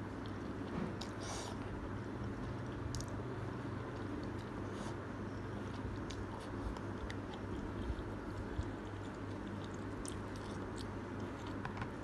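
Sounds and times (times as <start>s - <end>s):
chewing noodles: 0.0s - 12.0s.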